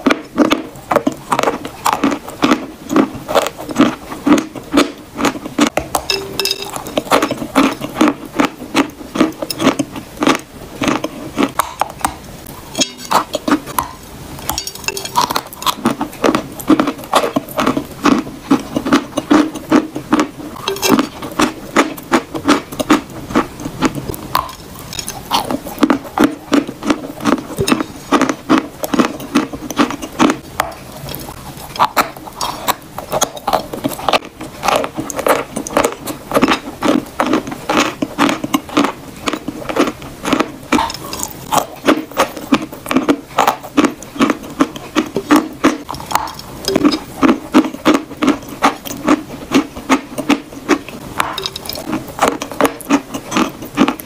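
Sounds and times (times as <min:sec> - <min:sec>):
chewing crisp chalk crunches: 0:00.0 - 0:12.2, 0:12.8 - 0:54.0.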